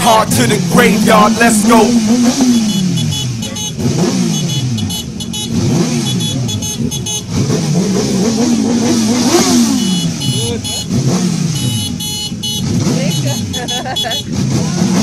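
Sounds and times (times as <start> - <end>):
engines revving: 0.0 - 13.5, 14.2 - 15.0.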